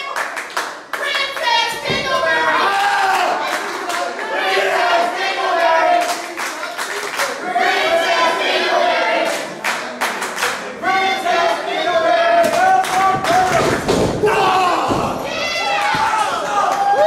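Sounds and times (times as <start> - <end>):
crowd chanting: 1.2 - 16.7.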